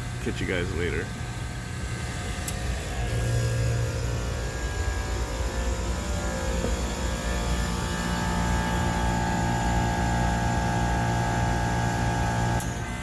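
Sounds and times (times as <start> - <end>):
air unit compressor and fans hum: 0.0 - 13.0.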